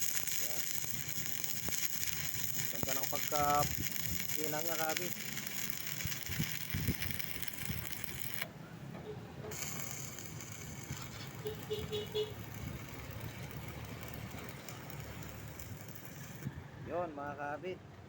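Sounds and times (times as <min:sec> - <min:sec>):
arc welding crackling hiss: 0:00.0 - 0:08.5, 0:09.5 - 0:16.5.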